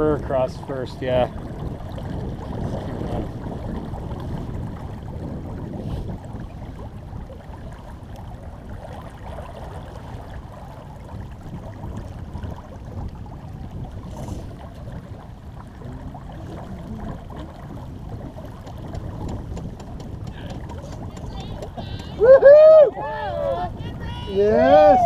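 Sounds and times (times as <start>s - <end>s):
water rushing along a boat hull: 0.0s - 25.0s
wind on the microphone: 0.0s - 25.0s.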